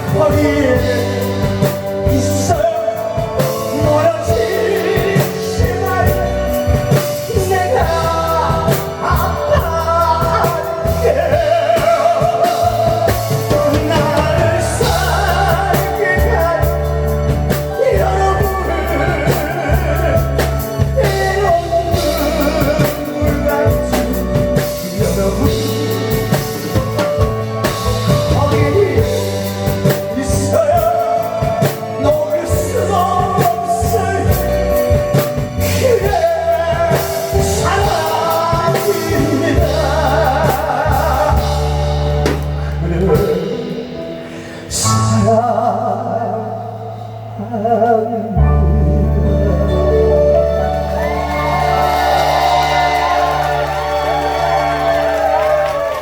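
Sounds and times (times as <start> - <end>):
backing music with bass and drums: 0.0 - 56.0
person singing: 0.0 - 56.0.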